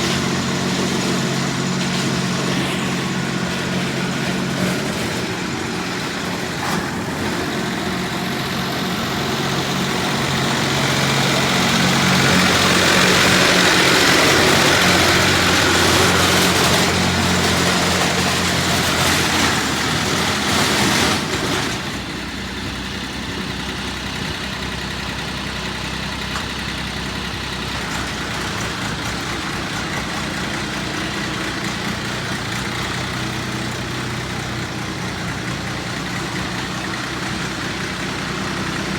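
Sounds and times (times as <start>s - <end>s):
dumper engine running: 0.0s - 38.9s.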